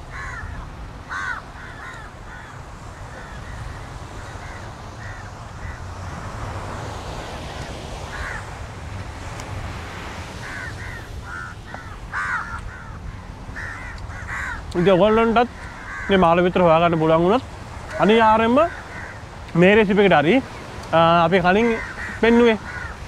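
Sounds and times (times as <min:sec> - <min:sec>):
crows cawing: 0:00.0 - 0:06.4, 0:07.4 - 0:09.1, 0:09.9 - 0:23.0
steady background rush: 0:00.0 - 0:23.0.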